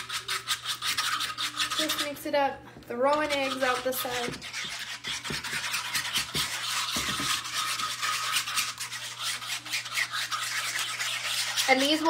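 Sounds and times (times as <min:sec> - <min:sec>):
whisk beating eggs in a metal tray: 0:00.0 - 0:12.0.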